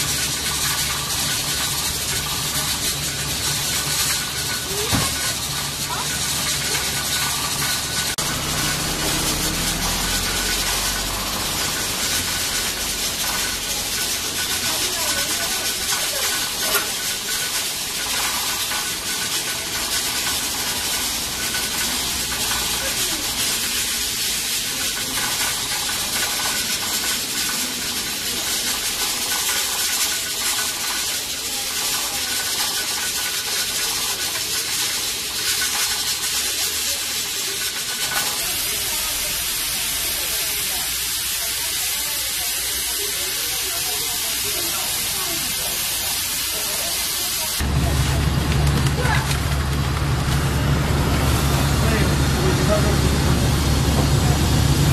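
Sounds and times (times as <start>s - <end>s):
oil sizzling on griddle: 0.0s - 54.9s.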